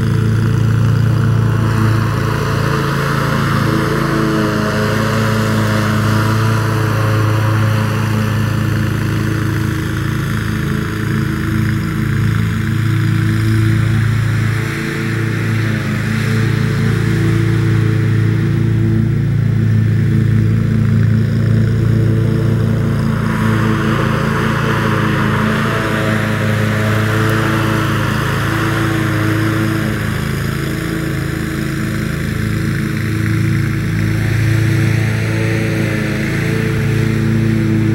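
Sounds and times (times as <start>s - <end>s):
lawn mower engine running: 0.0s - 37.9s.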